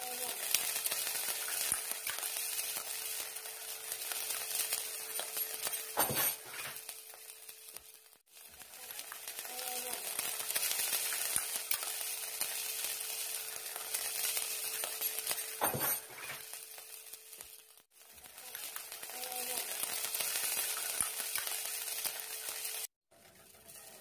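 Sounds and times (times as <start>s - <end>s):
garlic sizzling in hot oil: 0.0s - 24.0s.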